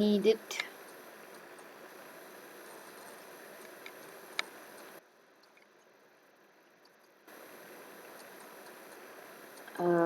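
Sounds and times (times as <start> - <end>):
low background hiss: 0.0 - 10.0.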